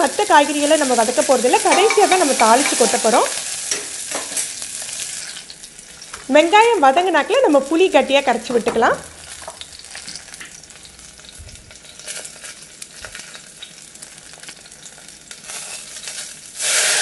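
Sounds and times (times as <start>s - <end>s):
shallots sizzling in oil: 0.0s - 17.0s.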